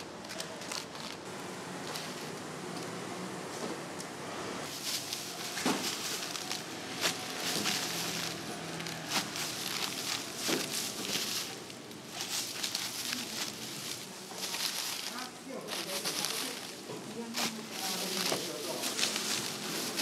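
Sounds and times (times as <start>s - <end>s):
dry wrappers rustling and crackling: 0.0s - 2.4s, 4.6s - 20.0s.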